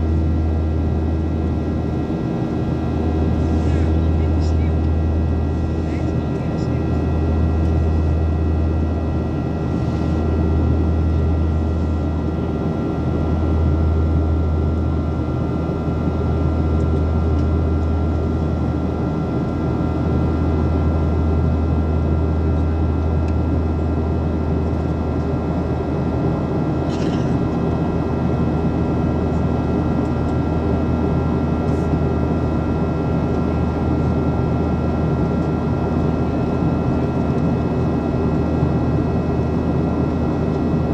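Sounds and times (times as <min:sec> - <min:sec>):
aircraft cabin engine drone: 0:00.0 - 0:40.9.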